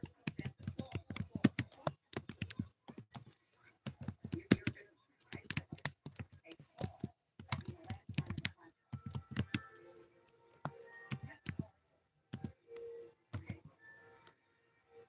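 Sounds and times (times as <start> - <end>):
keyboard typing clicks: 0.0 - 11.7, 12.3 - 14.4.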